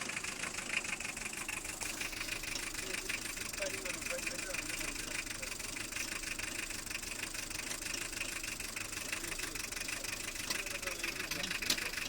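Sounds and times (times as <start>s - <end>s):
diesel engine idling roughly: 0.0s - 12.0s.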